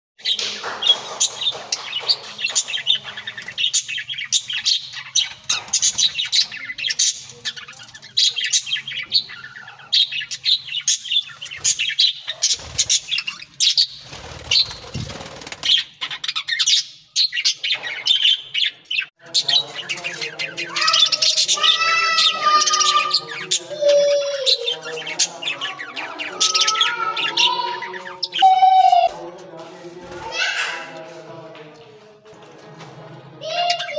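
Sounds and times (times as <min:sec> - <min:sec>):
budgerigars chirping: 0:00.3 - 0:29.1.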